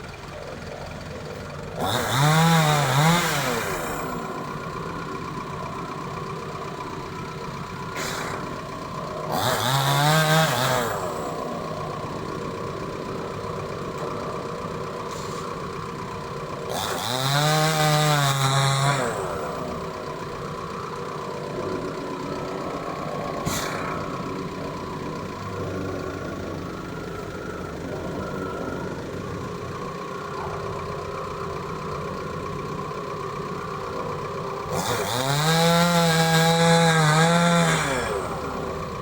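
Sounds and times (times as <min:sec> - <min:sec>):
chainsaw idling and revving: 0:00.0 - 0:39.0.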